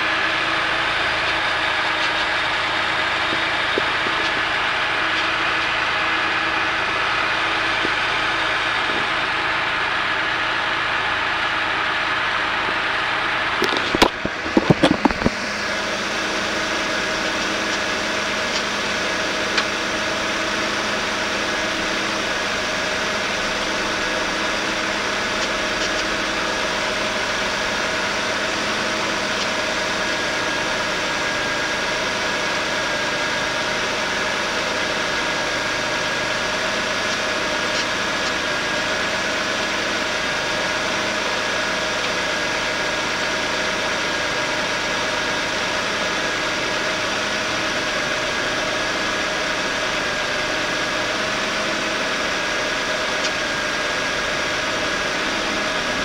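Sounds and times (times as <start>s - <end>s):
car engine idling: 0.0s - 56.0s
steady buzz: 0.0s - 56.0s.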